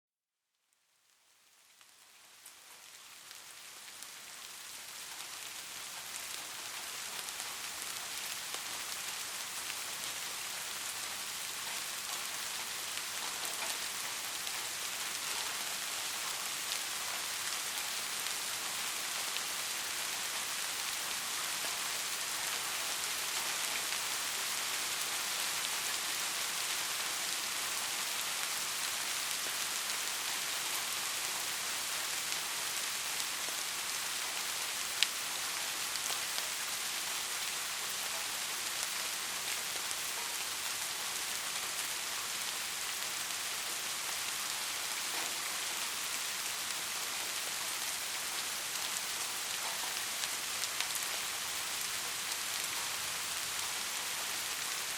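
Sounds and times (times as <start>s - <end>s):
rain falling steadily: 0.5s - 54.9s.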